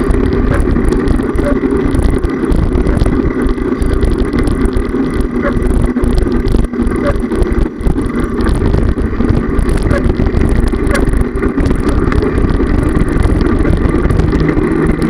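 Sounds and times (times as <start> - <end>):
bicycle tyres rolling on asphalt: 0.0 - 15.0
wind buffeting microphone: 0.0 - 15.0.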